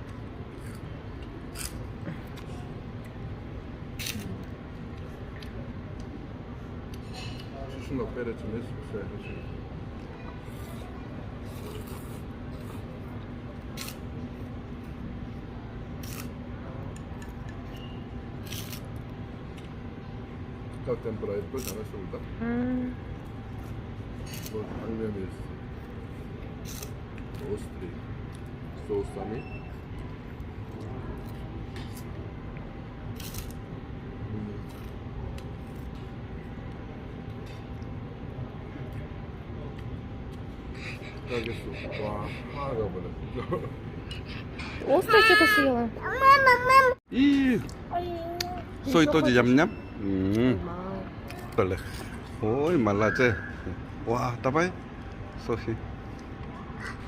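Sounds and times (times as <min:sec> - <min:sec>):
restaurant background din: 0:00.0 - 0:46.0
low background hum: 0:00.0 - 0:57.0.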